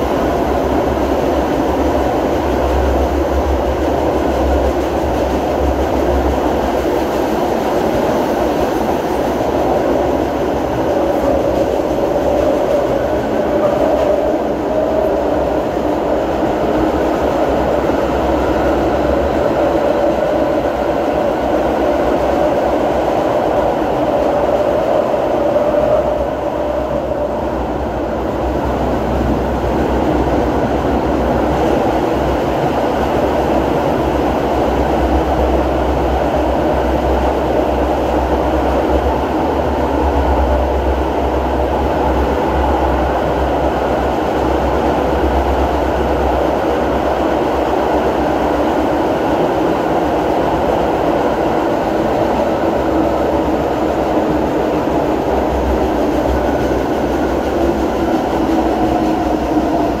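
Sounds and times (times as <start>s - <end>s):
train wheel and running noise: 0.0s - 60.0s.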